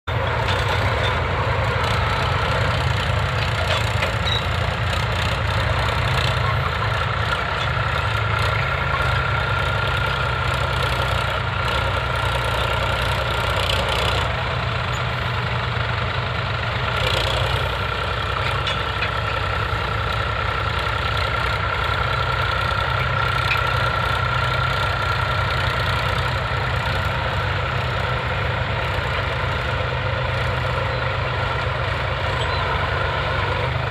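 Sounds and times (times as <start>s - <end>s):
vehicle engine running steadily: 0.0s - 33.9s.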